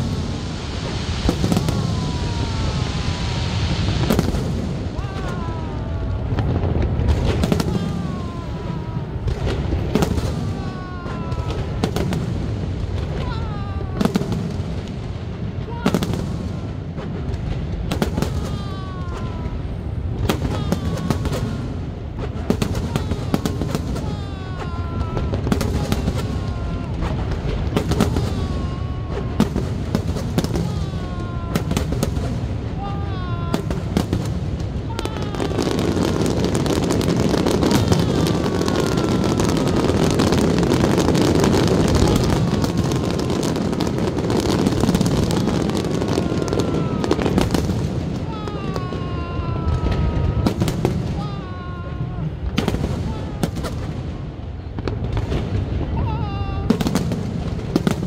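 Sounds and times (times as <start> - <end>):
crowd voices: 0.0 - 58.0
fireworks bangs and crackles: 0.0 - 58.0.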